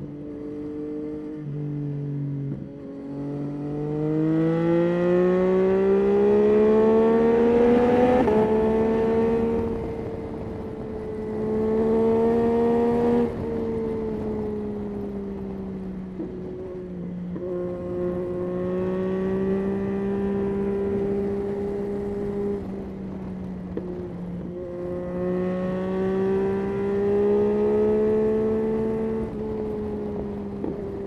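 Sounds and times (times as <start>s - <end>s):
motorcycle engine revving: 0.1s - 31.0s.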